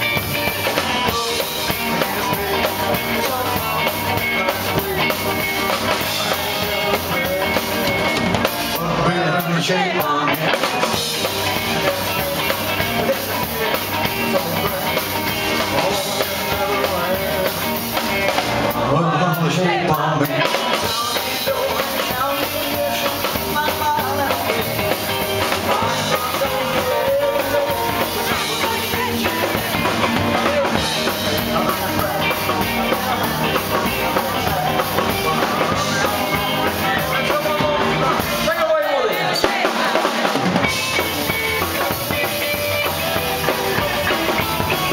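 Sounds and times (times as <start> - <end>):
drum kit: 0.0 - 44.9
electric guitar: 0.0 - 44.9
man singing: 0.0 - 44.9.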